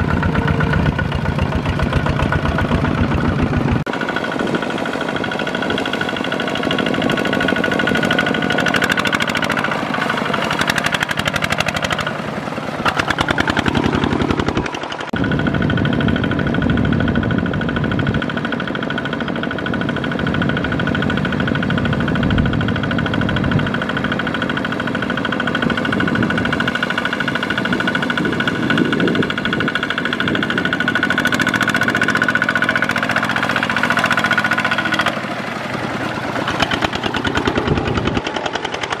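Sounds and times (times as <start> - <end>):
diesel engine chugging: 0.0 - 39.0.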